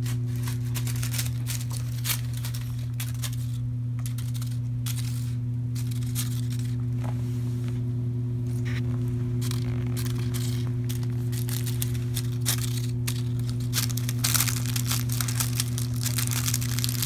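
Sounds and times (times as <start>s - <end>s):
foil toy crinkling and clicking: 0.0s - 6.8s, 8.5s - 17.0s
steady low hum: 0.0s - 17.0s.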